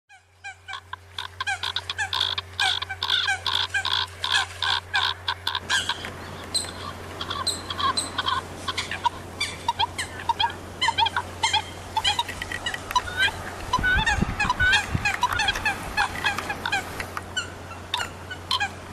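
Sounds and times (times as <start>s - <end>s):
flock of coots calling: 0.1s - 18.9s
low electrical hum: 0.1s - 18.9s.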